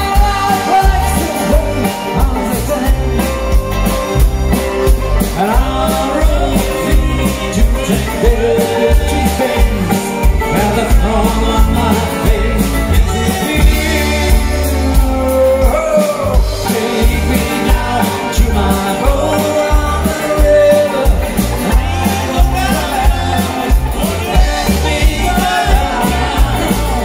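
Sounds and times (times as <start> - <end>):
accordion: 0.0 - 27.0
acoustic guitars: 0.0 - 27.0
person singing: 0.0 - 27.0.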